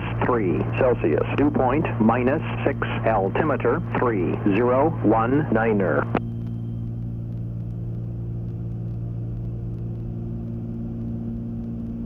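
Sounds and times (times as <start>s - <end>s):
airplane engines droning in cabin: 0.0s - 12.0s.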